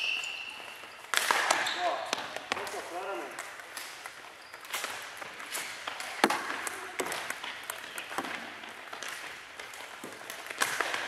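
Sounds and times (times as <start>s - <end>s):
floorball sticks and ball clacking: 0.0s - 11.0s.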